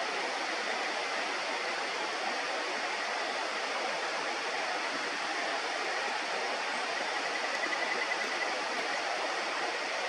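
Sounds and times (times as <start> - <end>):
flowing river water: 0.0 - 10.0.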